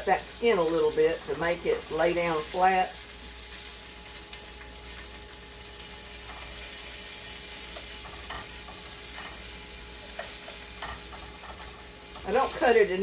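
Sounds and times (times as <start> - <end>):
sausage sizzling in a frying pan: 0.0 - 13.0
utensil scraping in pan: 0.5 - 13.0.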